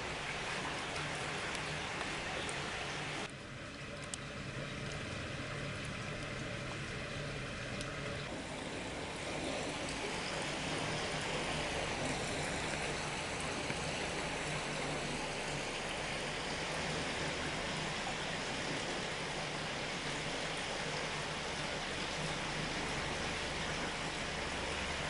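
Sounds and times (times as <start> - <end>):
water rushing through channel: 0.0 - 25.0.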